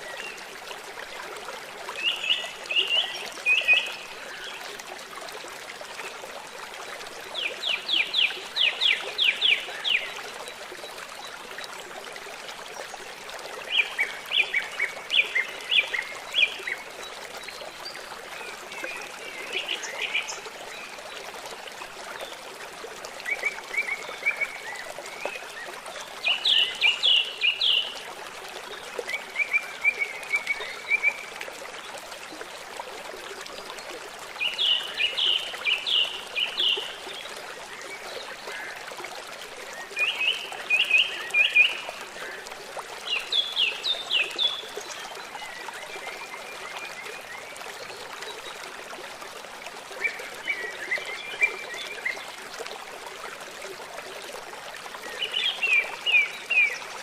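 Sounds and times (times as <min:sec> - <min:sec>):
trickle of running water: 0:00.0 - 0:57.0.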